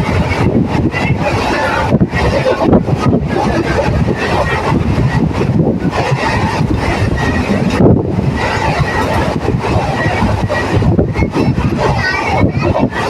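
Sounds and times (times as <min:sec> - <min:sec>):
train running on rails: 0:00.0 - 0:13.0.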